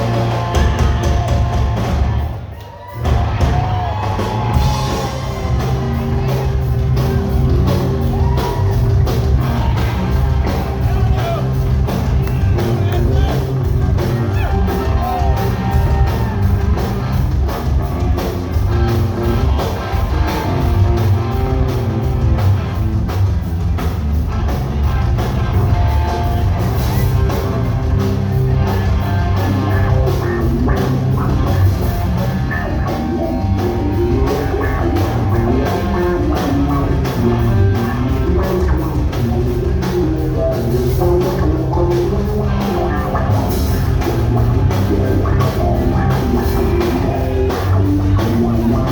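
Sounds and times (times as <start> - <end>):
drum kit beat: 0.0 - 48.9
live rock band playing: 0.0 - 48.9
electric guitar: 3.0 - 48.9.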